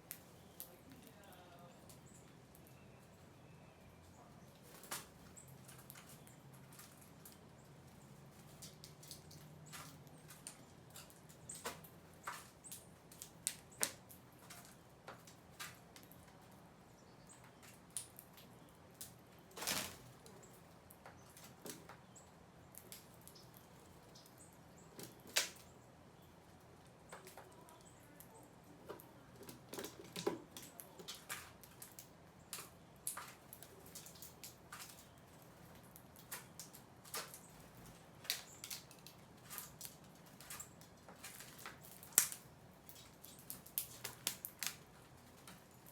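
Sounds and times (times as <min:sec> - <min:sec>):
birds pecking taps and clicks: 0:00.0 - 0:03.3, 0:04.2 - 0:45.9.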